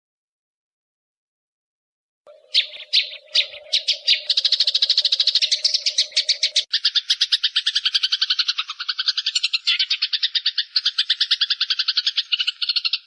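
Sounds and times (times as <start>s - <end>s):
sparrows chattering harshly: 2.3s - 13.0s.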